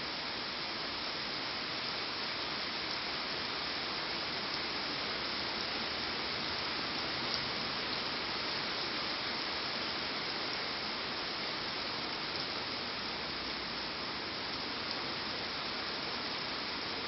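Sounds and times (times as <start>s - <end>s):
rain falling steadily: 0.0s - 17.0s.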